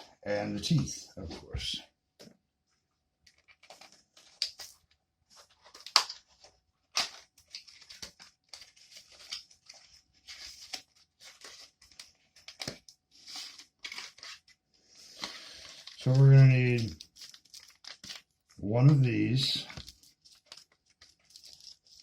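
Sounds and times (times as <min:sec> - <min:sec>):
plastic and cardboard crinkling: 0:03.2 - 0:22.0.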